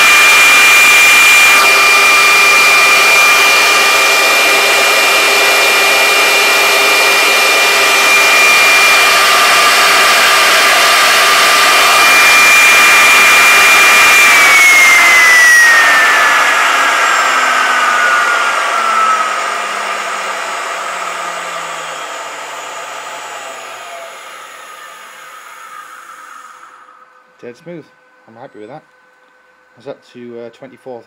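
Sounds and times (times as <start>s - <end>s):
router spindle whine: 0.0s - 27.3s
cooling fan rushing: 0.0s - 28.7s.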